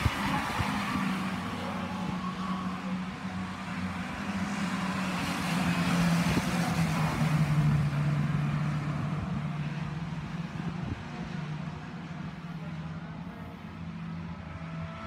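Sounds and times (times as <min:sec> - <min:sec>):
stock car engines racing: 0:00.0 - 0:15.0.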